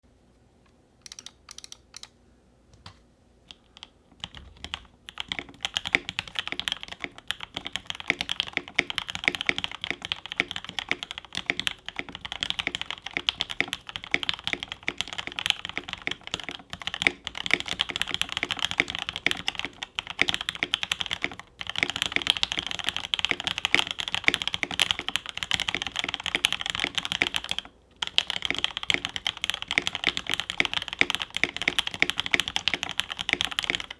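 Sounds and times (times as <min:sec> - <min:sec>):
mechanical keyboard typing: 0:01.0 - 0:02.1, 0:03.5 - 0:33.9.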